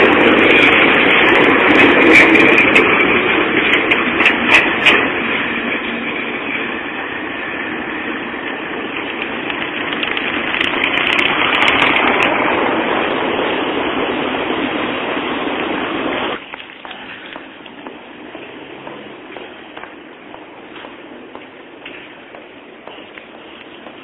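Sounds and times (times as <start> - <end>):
tram rolling: 0.0 - 24.0.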